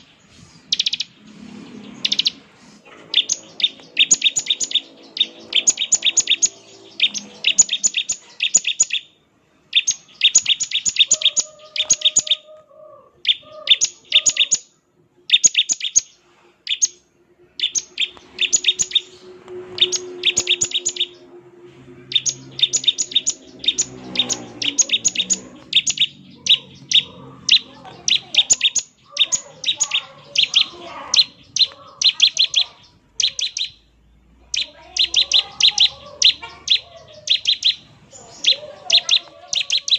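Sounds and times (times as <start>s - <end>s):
bird calling sharp high notes: 1.8s - 12.6s, 13.2s - 33.9s, 34.5s - 39.9s.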